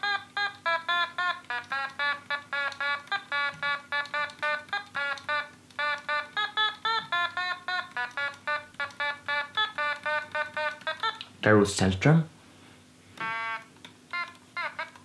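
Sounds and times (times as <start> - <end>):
electronic toy instrument notes: 0.0 - 11.3, 13.2 - 15.0.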